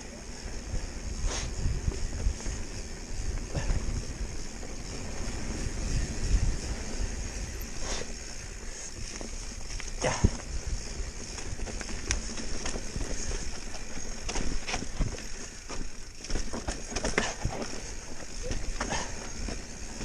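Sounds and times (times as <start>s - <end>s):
bike clattering and rattling: 0.0s - 20.0s
hiss of wind and tyres: 0.0s - 20.0s.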